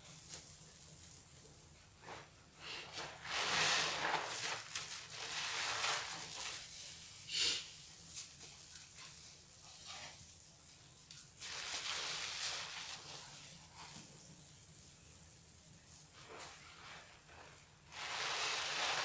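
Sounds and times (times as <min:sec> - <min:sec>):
foamy sponge squelching: 0:00.0 - 0:15.2, 0:15.8 - 0:19.0.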